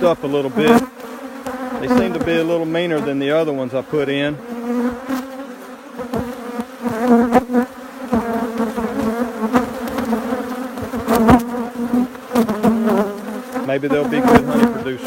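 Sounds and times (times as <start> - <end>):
bees flying past microphone: 0.0 - 15.0
honeybees buzzing: 0.0 - 15.0.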